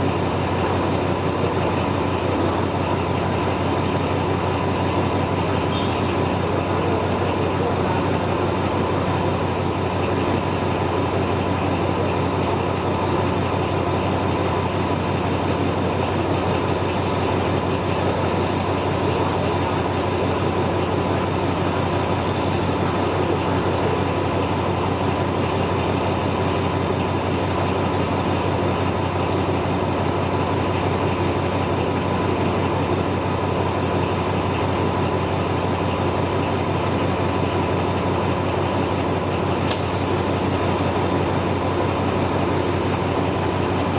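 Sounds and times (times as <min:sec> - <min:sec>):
locomotive engine hum: 0:00.0 - 0:43.9.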